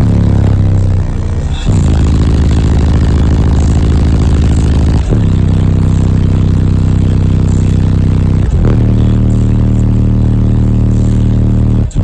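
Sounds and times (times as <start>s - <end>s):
heavy bass music through subwoofer: 0.0s - 12.0s.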